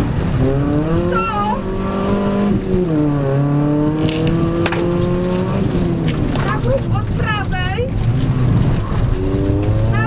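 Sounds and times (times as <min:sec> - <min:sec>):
car engine under load: 0:00.0 - 0:10.0.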